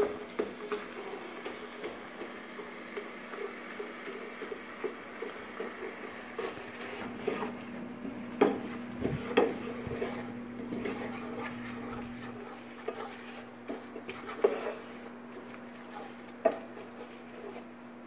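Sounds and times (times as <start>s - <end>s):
wooden spoon scraping frying pan: 3.0s - 17.8s.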